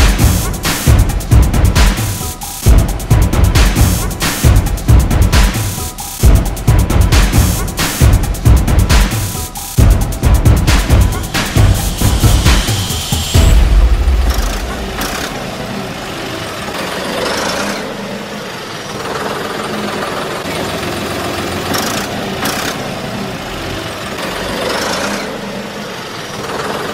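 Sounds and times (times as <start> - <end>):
tractor engine idling: 0.0 - 26.9.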